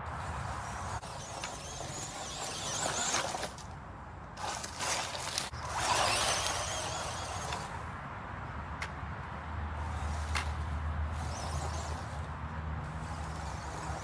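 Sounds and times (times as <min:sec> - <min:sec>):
tyres on rough ground: 0:00.0 - 0:14.0
rc truck motor whine: 0:00.1 - 0:03.7, 0:04.4 - 0:07.8, 0:09.8 - 0:14.0.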